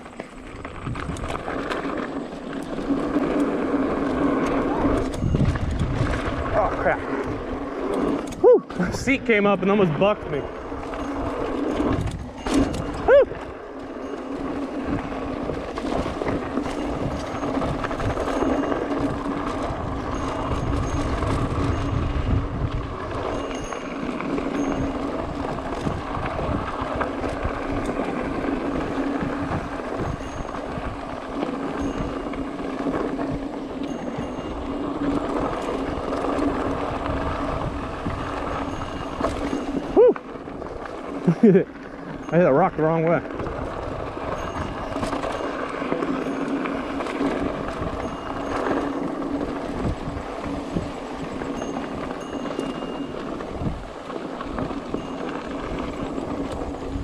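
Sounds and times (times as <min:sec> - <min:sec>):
bike tyres rattling over dirt: 0:00.0 - 0:57.0.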